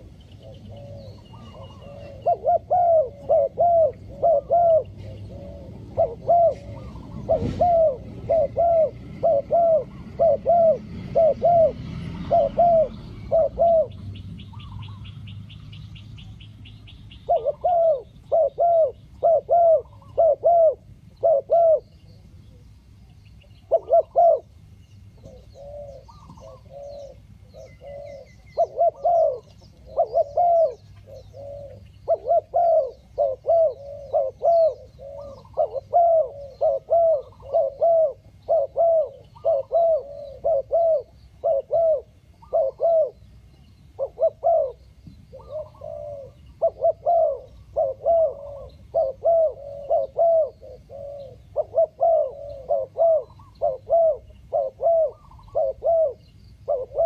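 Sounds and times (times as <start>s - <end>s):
dove cooing: 0.0s - 22.8s, 23.5s - 57.0s.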